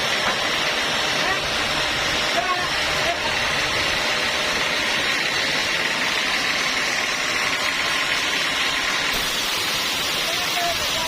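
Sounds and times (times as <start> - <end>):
high machine whine: 0.0 - 11.0
sawmill machinery drone: 0.0 - 11.0.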